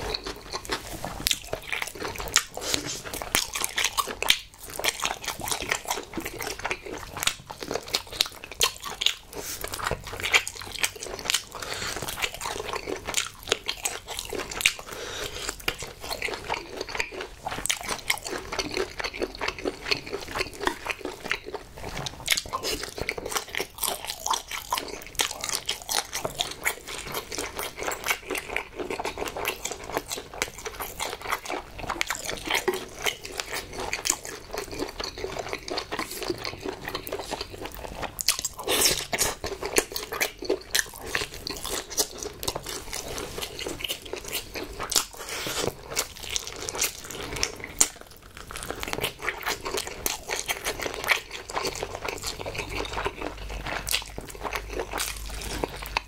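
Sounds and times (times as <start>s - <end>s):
close chewing of meat: 0.0s - 56.0s.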